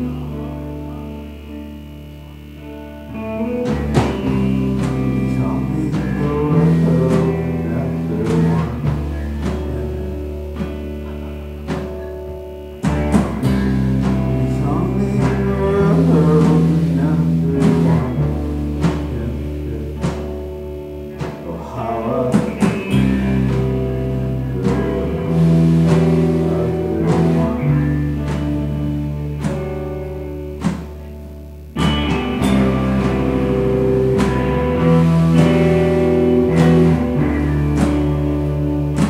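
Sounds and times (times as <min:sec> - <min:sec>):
person singing: 0:00.0 - 0:30.6, 0:31.8 - 0:39.0
guitars and bass chords: 0:00.0 - 0:39.0
drum hits and cymbals: 0:03.6 - 0:39.0.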